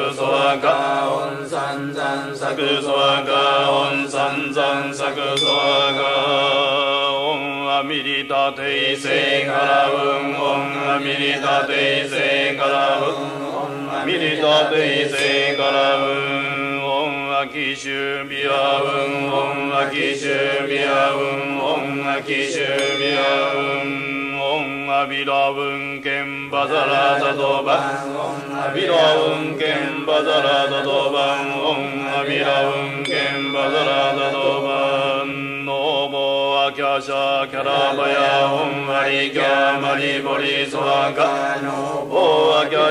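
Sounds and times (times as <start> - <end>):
monotone chanting: 0.0 - 42.9.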